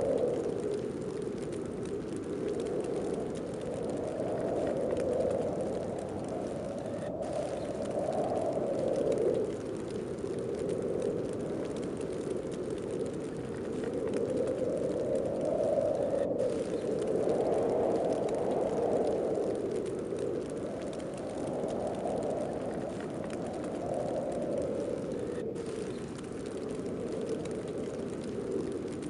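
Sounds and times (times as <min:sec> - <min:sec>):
snowstorm wind blowing: 0:00.0 - 0:29.0.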